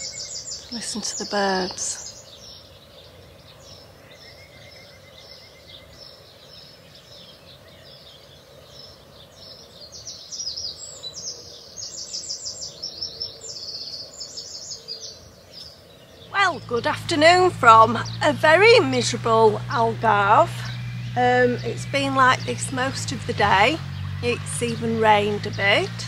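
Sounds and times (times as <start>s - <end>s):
birds chirping: 0.0s - 26.0s
wren singing: 0.0s - 26.0s.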